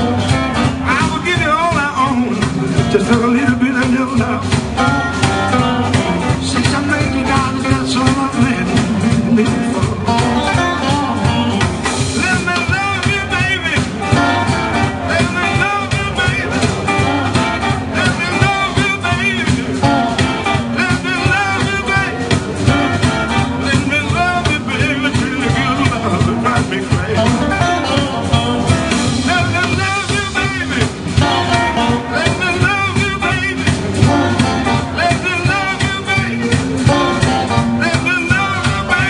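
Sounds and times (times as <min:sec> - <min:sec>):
bending guitar notes: 0:00.0 - 0:39.0
electric blues band playing: 0:00.0 - 0:39.0.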